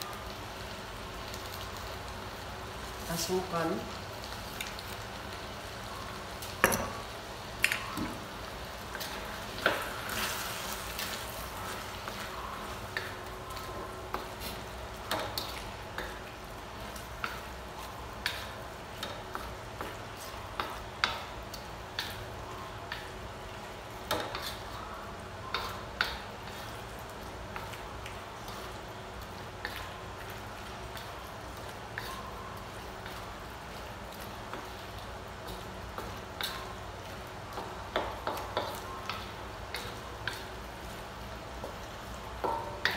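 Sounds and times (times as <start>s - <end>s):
food sizzling in a wok: 0.0s - 42.9s.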